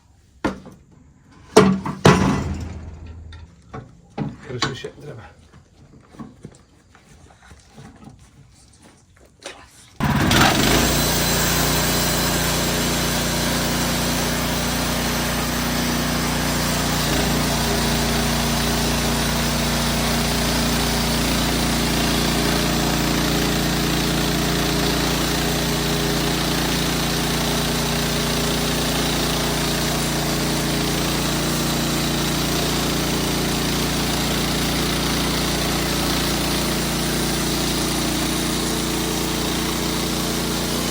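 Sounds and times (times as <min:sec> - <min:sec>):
band sawmill running: 0:01.6 - 0:04.9, 0:10.0 - 0:40.9.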